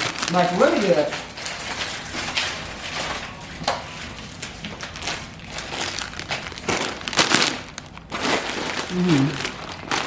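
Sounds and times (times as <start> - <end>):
snack bag crinkling: 0.0 - 10.0.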